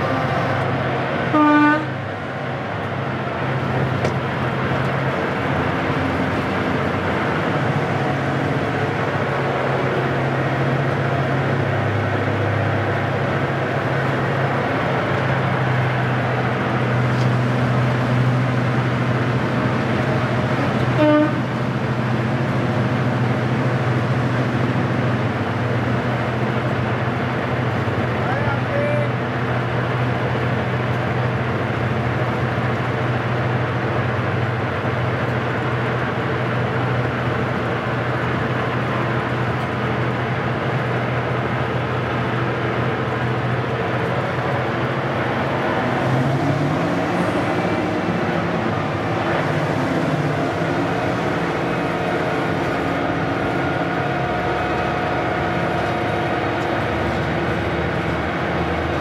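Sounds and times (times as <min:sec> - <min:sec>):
diesel locomotive engines running: 0:00.0 - 0:59.0.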